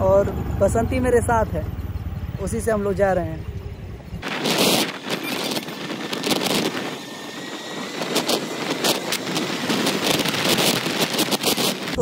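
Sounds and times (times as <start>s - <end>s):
rushing road noise: 0.0s - 12.0s
wind gusting over microphone: 0.0s - 12.0s.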